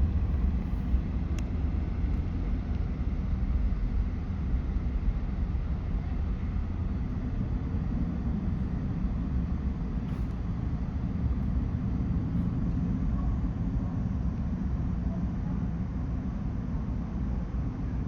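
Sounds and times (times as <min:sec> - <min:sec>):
jet engines rumbling: 0:00.0 - 0:17.8.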